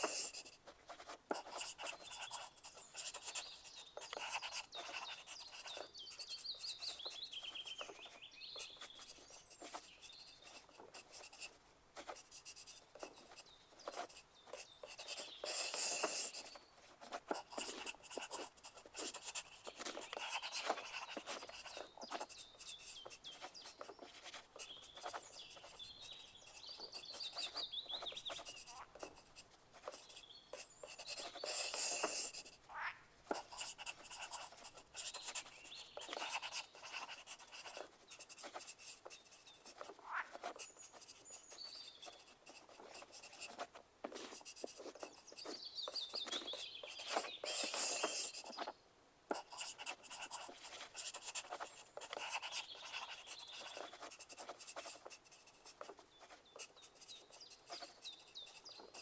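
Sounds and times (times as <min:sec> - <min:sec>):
pencils scratching on paper: 0:00.0 - 0:32.7, 0:33.3 - 0:48.7, 0:49.3 - 0:59.0.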